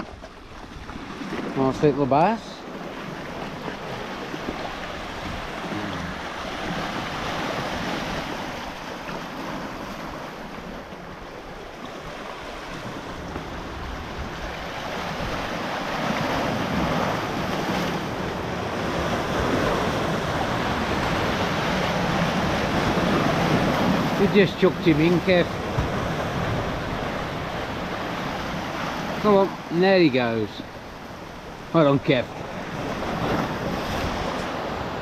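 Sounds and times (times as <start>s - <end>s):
sea surf on rocks: 0.0s - 35.0s.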